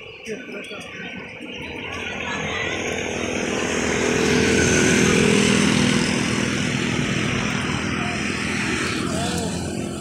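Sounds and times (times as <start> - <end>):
tyre and road noise: 0.0 - 10.0
vehicle engine passing: 1.8 - 10.0.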